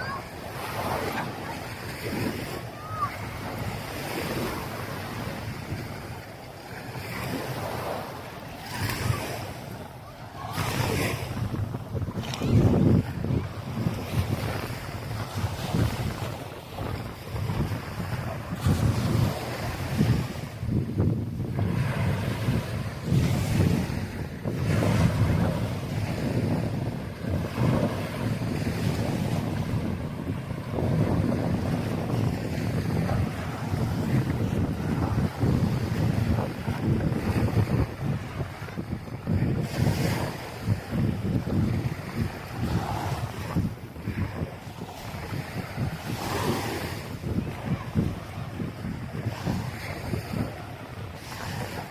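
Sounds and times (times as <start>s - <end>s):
surf washing on beach: 0.0s - 51.9s
wind on microphone: 0.0s - 51.9s.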